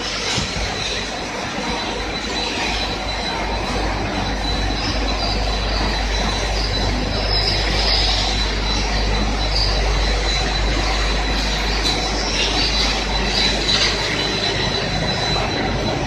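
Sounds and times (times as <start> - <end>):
deep hum: 0.0 - 16.0
machinery running: 0.0 - 16.0
thin high whine: 0.0 - 16.0.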